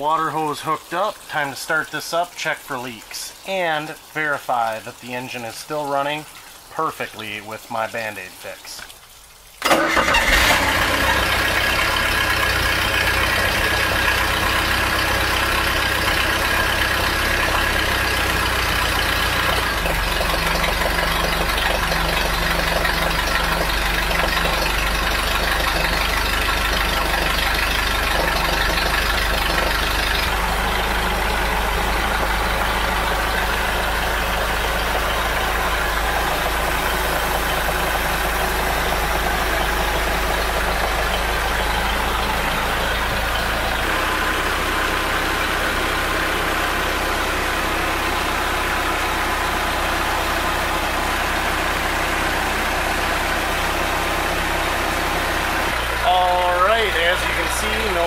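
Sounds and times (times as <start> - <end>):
boat engine idling: 9.6 - 58.0.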